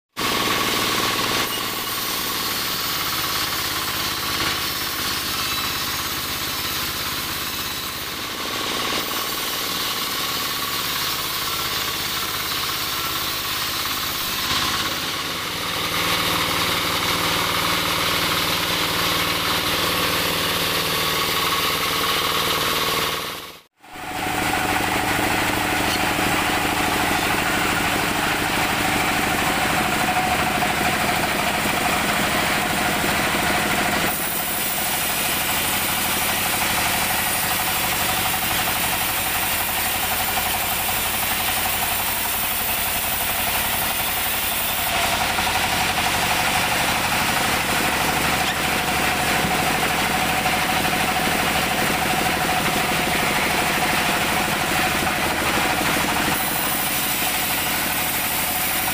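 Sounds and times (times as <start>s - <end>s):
band sawmill running: 0.1s - 58.9s.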